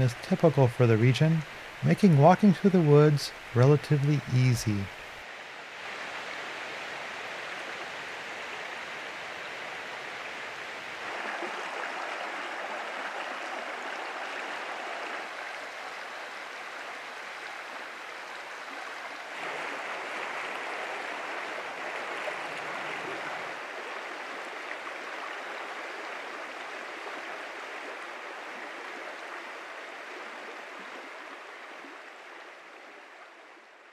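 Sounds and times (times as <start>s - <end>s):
brook flowing over rocks: 5.8s - 33.9s.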